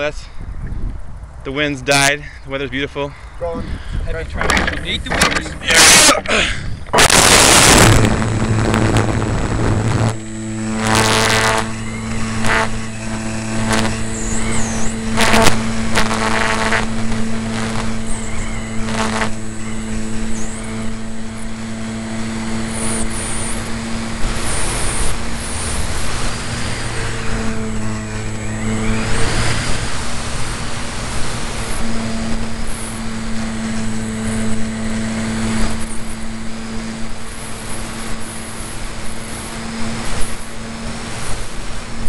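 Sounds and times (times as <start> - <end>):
wind noise on microphone: 0.0 - 2.1, 3.3 - 42.0
model plane motor running: 3.4 - 42.0.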